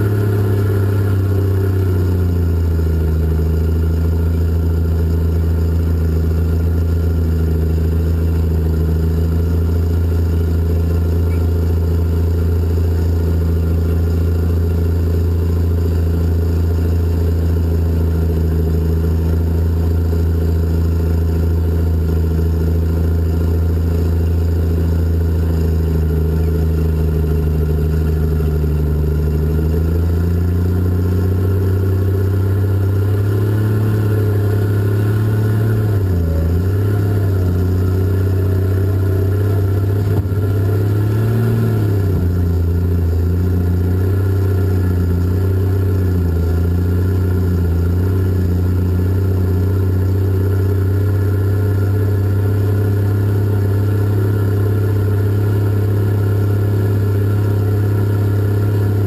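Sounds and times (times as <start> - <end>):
diesel engine running loud: 0.0 - 59.0.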